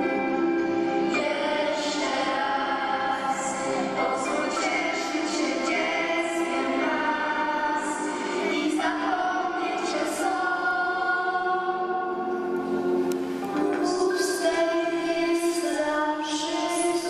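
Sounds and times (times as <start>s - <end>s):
children's choir singing: 1.1s - 12.6s, 13.4s - 17.0s.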